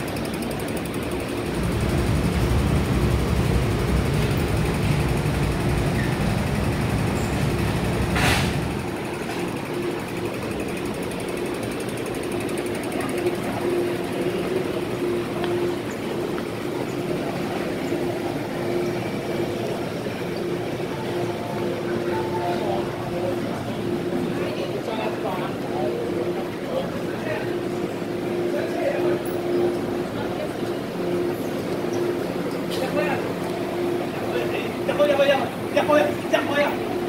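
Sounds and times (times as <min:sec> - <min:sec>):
electric train rumble: 0:00.0 - 0:37.0
steady train hum: 0:00.0 - 0:37.0.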